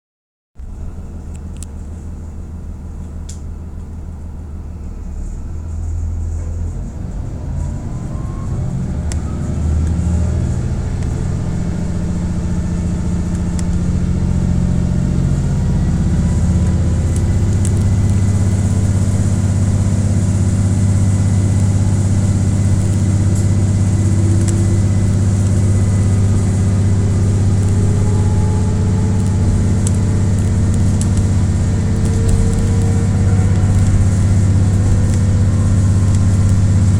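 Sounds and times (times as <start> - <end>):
diesel railcar engine: 0.6 - 36.9.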